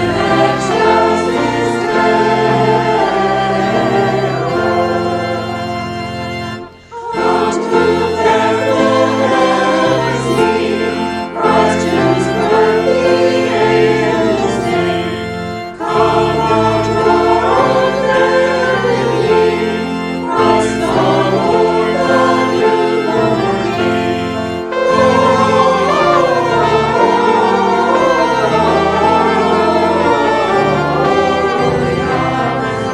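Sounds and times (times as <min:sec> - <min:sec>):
choir singing a hymn: 0:00.0 - 0:32.9
keyboard accompaniment: 0:00.0 - 0:32.9.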